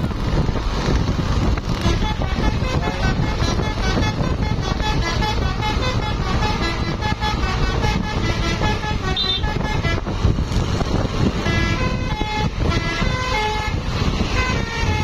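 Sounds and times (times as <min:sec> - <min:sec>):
steady low rumble: 0:00.0 - 0:15.0
bus horn playing melody: 0:01.7 - 0:10.3, 0:11.4 - 0:15.0.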